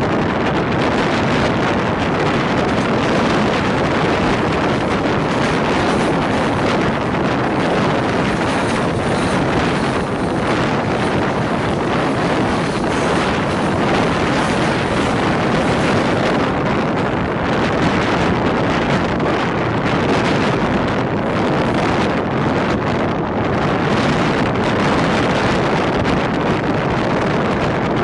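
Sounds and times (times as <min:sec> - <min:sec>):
passenger train rushing: 0:00.0 - 0:28.0
wind buffeting microphone: 0:00.0 - 0:28.0.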